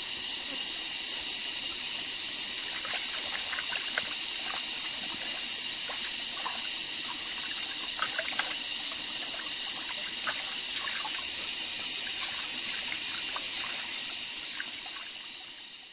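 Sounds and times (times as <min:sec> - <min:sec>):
small splashes and drips: 0:01.8 - 0:15.9
water trickling: 0:01.8 - 0:15.9.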